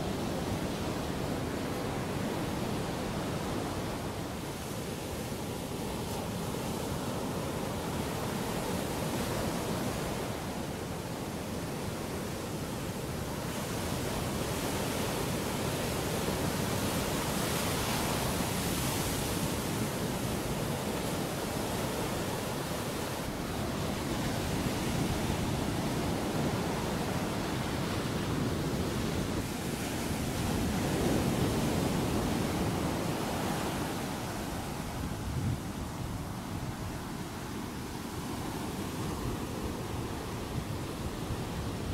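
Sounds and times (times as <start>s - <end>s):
ocean surf on a beach: 0.0s - 41.9s.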